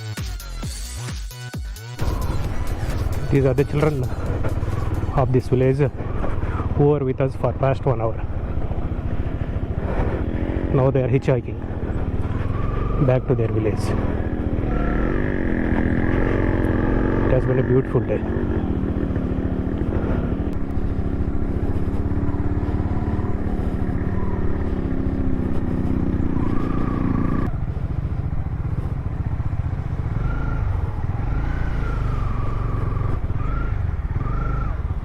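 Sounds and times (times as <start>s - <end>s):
motorcycle engines running: 2.0s - 35.0s.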